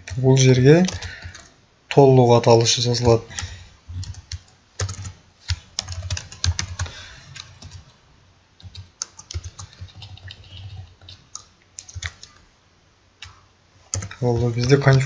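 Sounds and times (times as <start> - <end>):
computer keyboard typing: 0.0 - 7.9, 8.6 - 12.4, 13.2 - 15.0.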